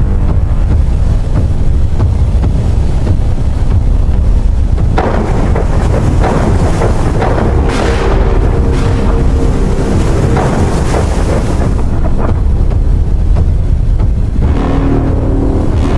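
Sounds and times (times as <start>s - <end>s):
loud rushing noise: 0.0s - 15.9s
wind and thunder rumble: 0.0s - 15.9s.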